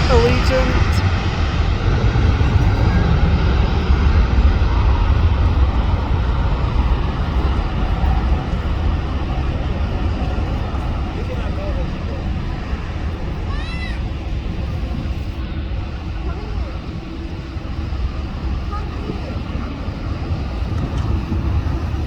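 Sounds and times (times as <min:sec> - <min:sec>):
jet airliner engine rumble: 0:00.0 - 0:22.0.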